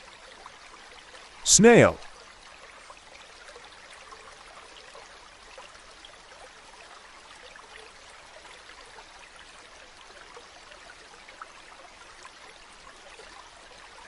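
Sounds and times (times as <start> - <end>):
trickle of running water: 0.0 - 1.4, 2.1 - 14.0.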